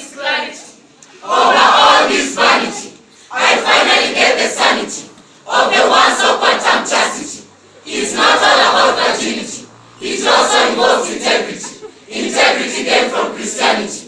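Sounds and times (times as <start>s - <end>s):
crowd shouting in unison: 1.2s - 14.0s.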